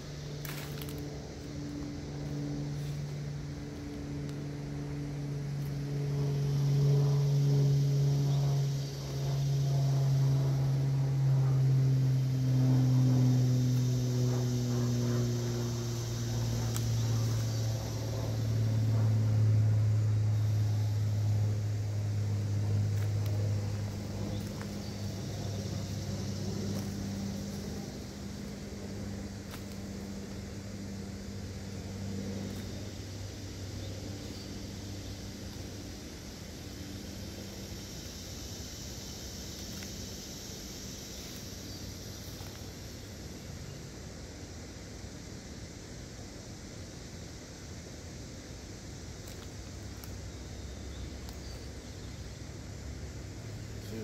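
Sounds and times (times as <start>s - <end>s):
engine drone: 0.0s - 54.0s.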